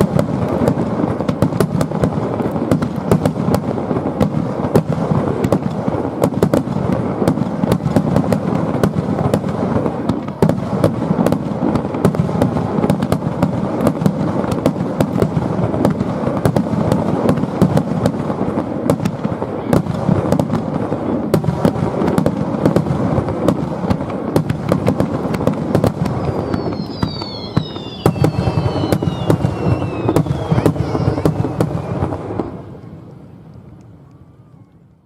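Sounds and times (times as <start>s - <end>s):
falling whistles of fireworks: 0.0s - 35.0s
fireworks bursts and crackling bangs: 0.0s - 35.0s.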